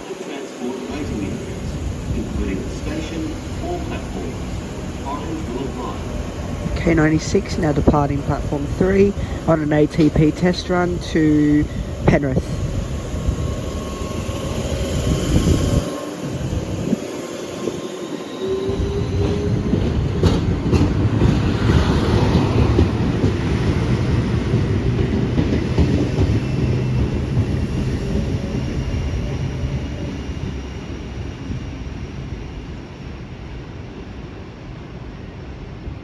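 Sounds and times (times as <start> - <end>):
electric train rumbling past: 0.0 - 36.0.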